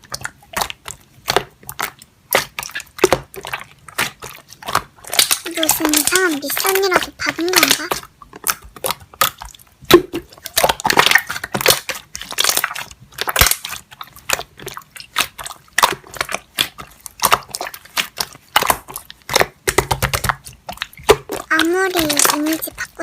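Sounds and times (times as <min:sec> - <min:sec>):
slime squishing by hand: 0:00.0 - 0:23.0.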